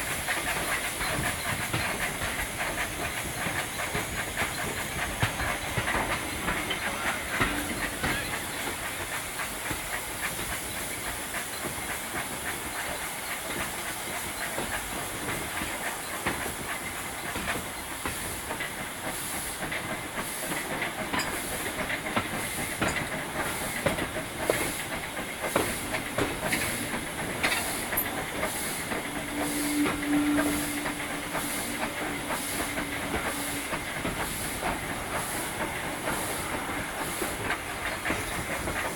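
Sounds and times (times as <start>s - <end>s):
steam hissing: 0.0s - 38.9s
locomotive regular beat: 0.1s - 38.9s.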